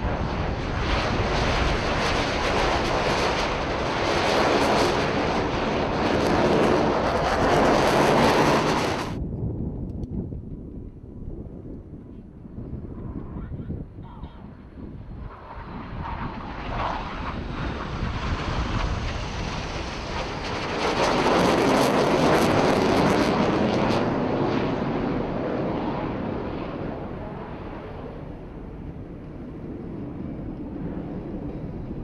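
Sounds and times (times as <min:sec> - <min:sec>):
jets flying past: 0:00.0 - 0:09.2, 0:12.7 - 0:32.0.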